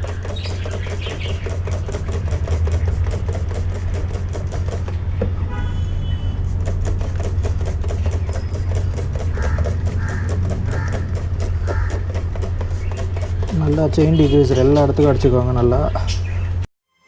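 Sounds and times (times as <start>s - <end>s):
engine idling with ticking: 0.0s - 5.4s, 6.4s - 16.6s.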